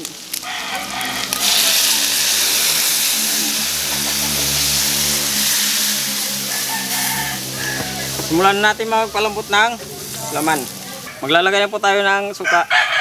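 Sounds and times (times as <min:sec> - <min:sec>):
water sizzling in a hot wok: 0:00.0 - 0:12.2.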